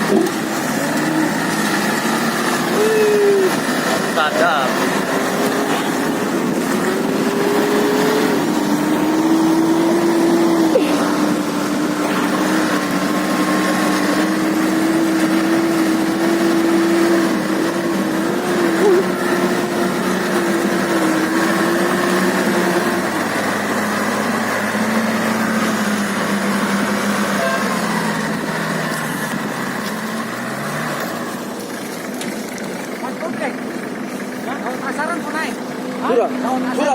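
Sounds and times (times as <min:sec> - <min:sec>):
car engine running steadily: 0:00.0 - 0:36.9.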